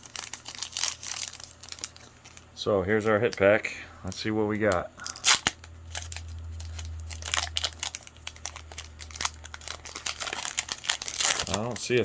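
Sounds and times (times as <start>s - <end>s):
foil wrapper crinkling: 0.0s - 12.0s
steady low hum: 0.0s - 12.0s.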